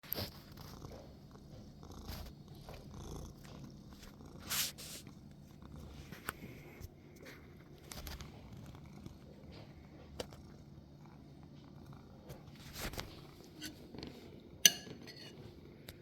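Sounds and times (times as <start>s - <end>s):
cat purring: 0.1s - 14.6s.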